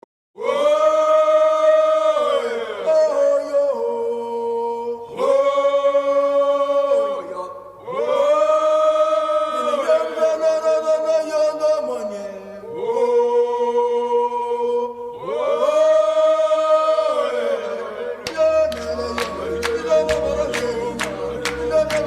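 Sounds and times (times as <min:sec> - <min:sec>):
voices singing a cappella: 0:00.4 - 0:22.0.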